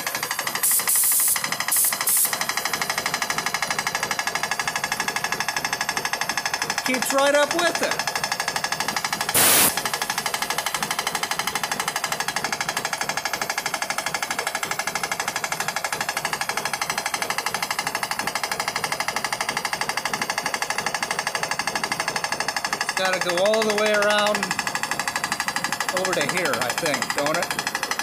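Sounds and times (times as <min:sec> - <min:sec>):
air compressor running: 0:00.0 - 0:28.0.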